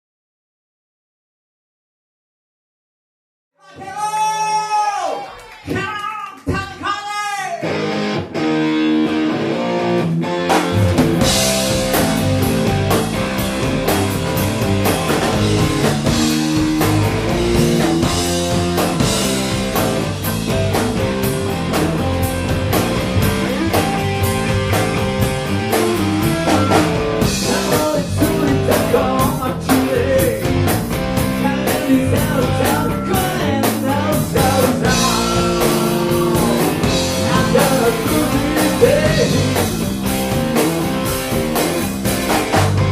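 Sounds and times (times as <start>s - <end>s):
electric guitar: 7.6s - 42.9s
rock band playing live: 7.6s - 42.9s.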